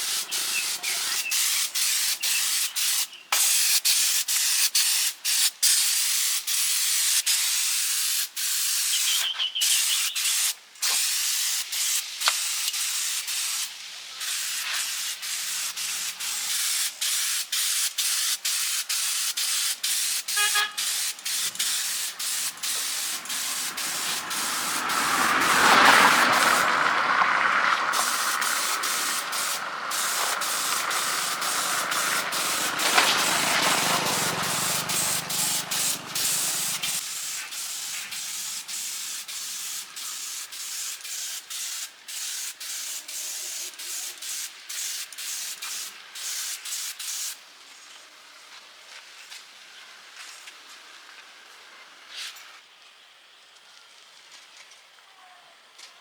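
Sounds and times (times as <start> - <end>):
spray hissing in bursts: 0.0 - 26.9, 27.9 - 47.4
faint background noise: 6.2 - 56.0.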